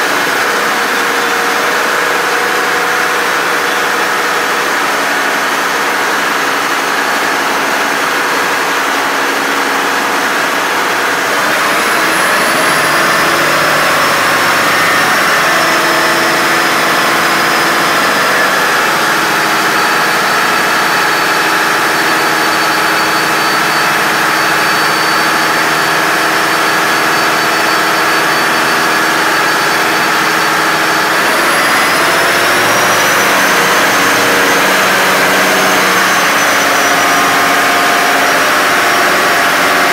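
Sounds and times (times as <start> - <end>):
diesel engines running: 0.0 - 39.9
high whine: 0.0 - 39.9.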